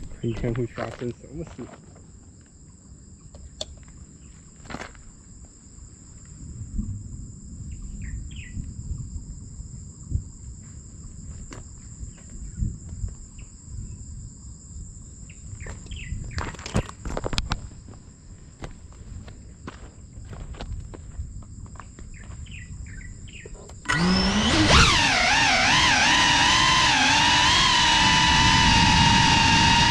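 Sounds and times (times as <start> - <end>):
insects trilling: 0.0 - 29.9.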